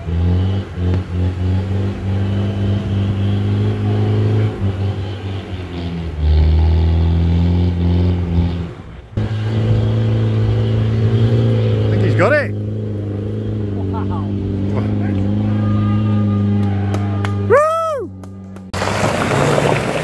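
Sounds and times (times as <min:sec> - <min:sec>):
off-road engine labouring: 0:00.0 - 0:20.0.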